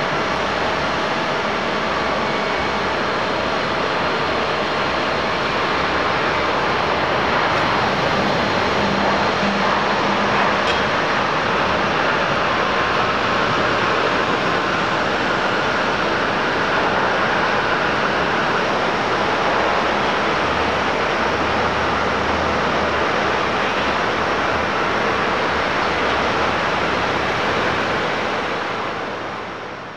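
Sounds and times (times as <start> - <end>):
high engine whine: 0.0 - 29.9
jet engines rushing: 0.0 - 29.9.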